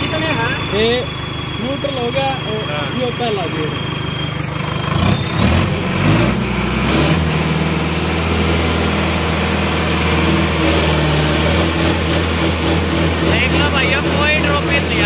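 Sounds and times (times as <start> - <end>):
tractor diesel engine revving: 0.0 - 15.0
turbo whine: 0.0 - 15.0.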